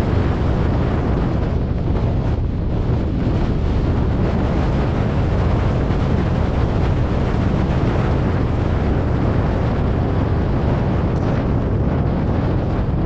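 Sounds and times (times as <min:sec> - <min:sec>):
road and engine rumble: 0:00.0 - 0:13.0
wind rushing on microphone: 0:00.0 - 0:13.0.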